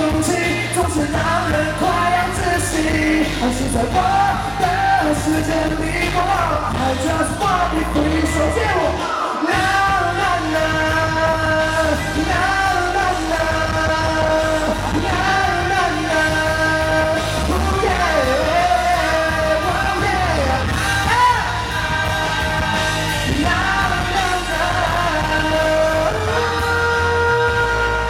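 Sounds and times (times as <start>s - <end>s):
live pop-rock band: 0.0s - 28.0s.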